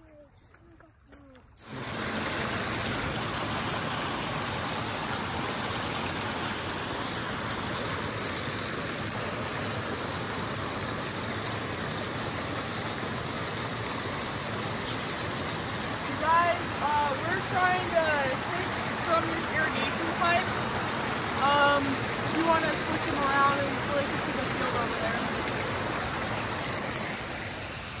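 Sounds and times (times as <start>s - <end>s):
white water rushing: 1.6s - 28.0s.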